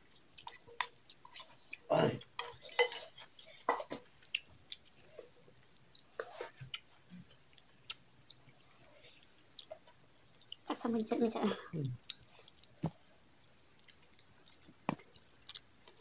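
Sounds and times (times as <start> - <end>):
wet chewing and lip smacks: 0.1 - 2.6, 3.2 - 10.9, 11.8 - 16.0.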